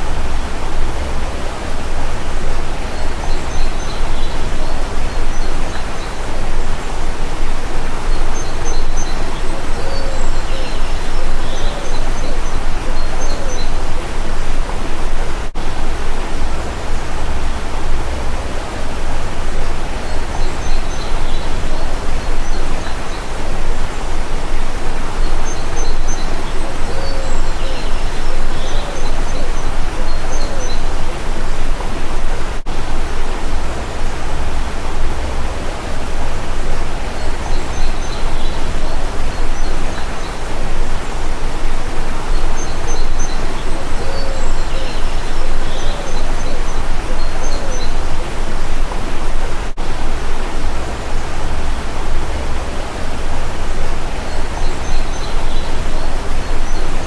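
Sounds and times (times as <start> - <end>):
faint bird chirps: 0.0 - 48.8
stream rushing: 0.0 - 57.0.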